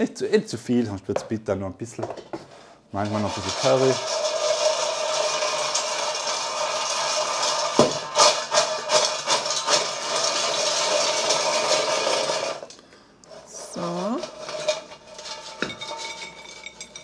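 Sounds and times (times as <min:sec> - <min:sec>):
fries rattling in fryer bowl: 0:03.0 - 0:17.0.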